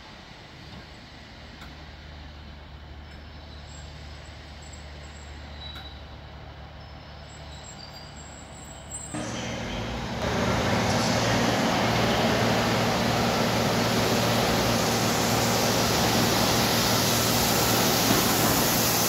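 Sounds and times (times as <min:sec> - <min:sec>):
diesel locomotive rumble with hiss: 0:00.0 - 0:19.0
train diesel engine hum: 0:00.0 - 0:19.0.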